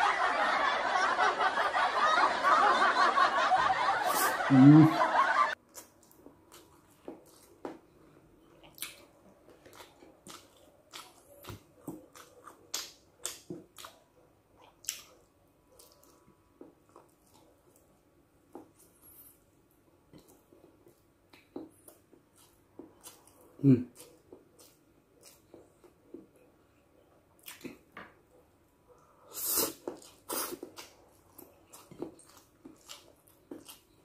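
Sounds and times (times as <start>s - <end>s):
man chewing and lip-smacking: 5.6s - 34.0s.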